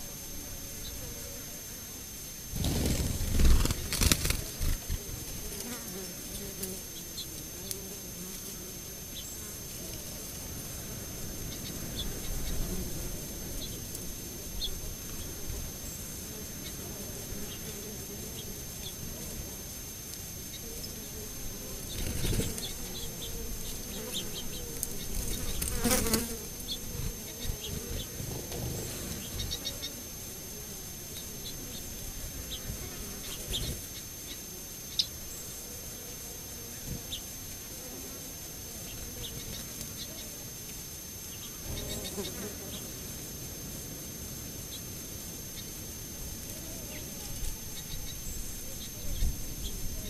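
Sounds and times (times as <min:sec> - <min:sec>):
insect buzzing: 0:00.0 - 0:50.0.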